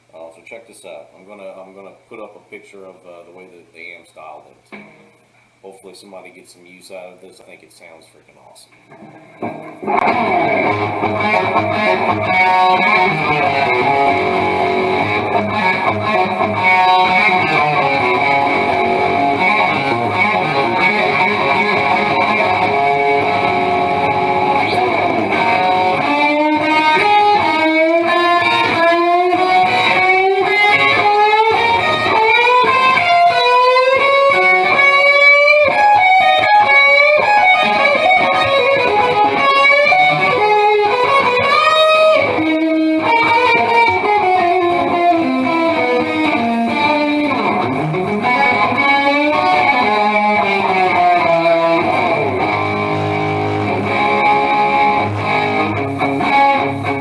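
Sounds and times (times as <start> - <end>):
overdriven electric guitar lead: 8.9 - 57.0.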